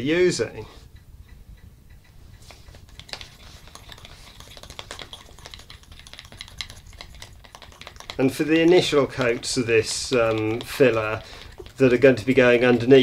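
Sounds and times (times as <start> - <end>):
metal tool scraping plastic pot: 2.5 - 13.0.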